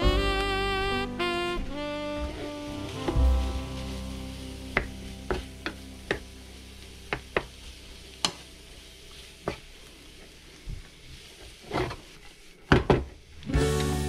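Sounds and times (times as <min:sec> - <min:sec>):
faint sizzle: 0:00.0 - 0:14.0.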